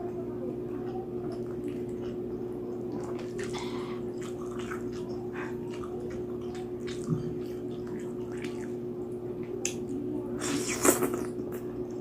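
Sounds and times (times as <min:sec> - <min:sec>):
steady low hum: 0:00.0 - 0:12.0
wet chewing and lip-smacking: 0:01.3 - 0:12.0.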